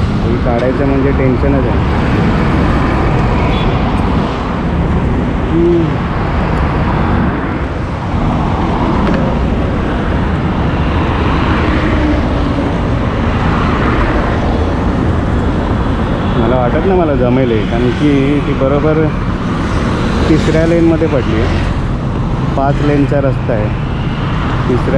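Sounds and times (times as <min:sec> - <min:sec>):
highway traffic passing: 0:00.0 - 0:24.9.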